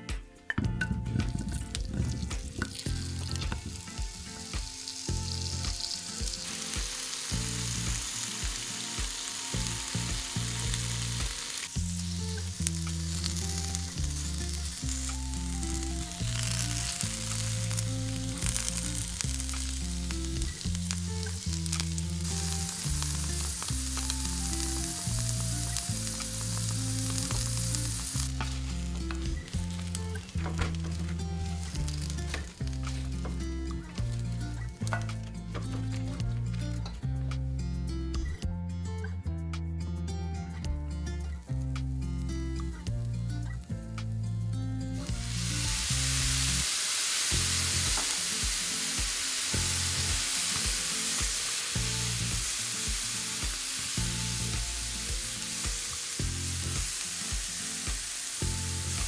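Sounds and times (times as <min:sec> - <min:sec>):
background music with bass line: 0:00.0 - 0:46.7, 0:47.3 - 0:59.0
potatoes sizzling in oil: 0:00.9 - 0:36.9, 0:44.9 - 0:59.0.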